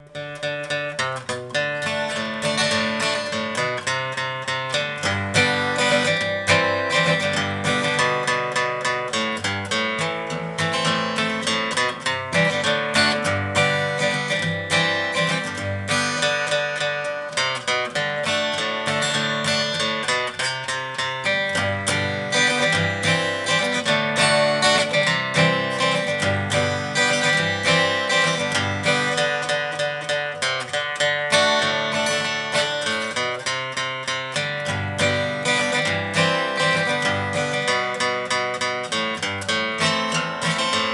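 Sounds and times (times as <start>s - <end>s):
acoustic guitar picking and strumming: 0.0s - 40.9s.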